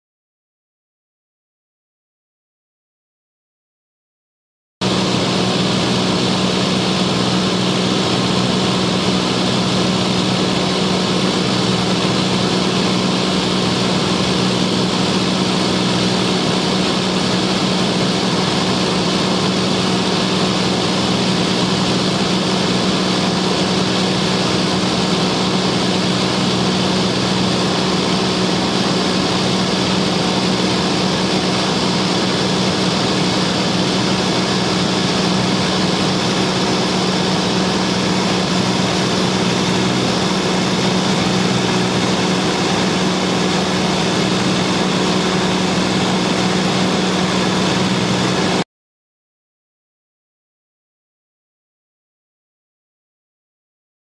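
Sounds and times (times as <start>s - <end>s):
aircraft engine droning: 4.8s - 48.6s.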